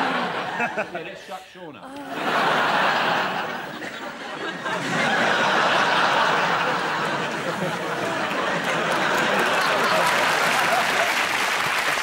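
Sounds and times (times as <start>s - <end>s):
audience laughing: 0.0s - 1.2s, 2.0s - 12.0s.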